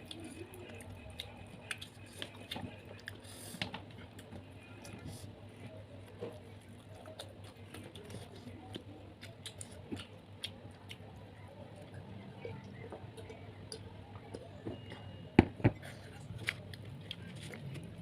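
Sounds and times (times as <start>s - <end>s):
chewing prawns: 0.0s - 15.0s, 15.8s - 18.0s.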